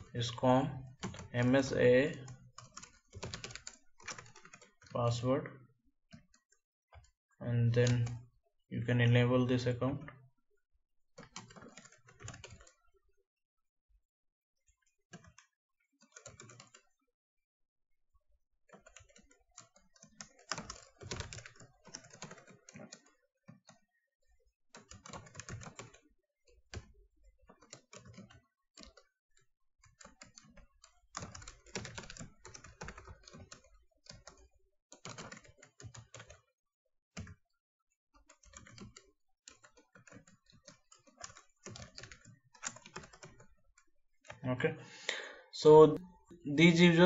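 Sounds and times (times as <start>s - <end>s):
computer keyboard typing: 0.0s - 5.3s, 6.1s - 8.3s, 11.2s - 13.0s, 15.1s - 17.0s, 18.7s - 36.5s, 37.1s - 37.5s, 38.2s - 47.0s.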